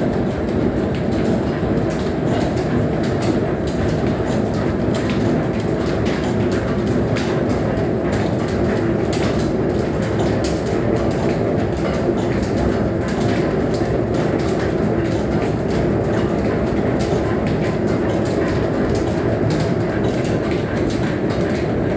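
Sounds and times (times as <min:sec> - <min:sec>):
belt-driven milling machine running: 0:00.0 - 0:21.9.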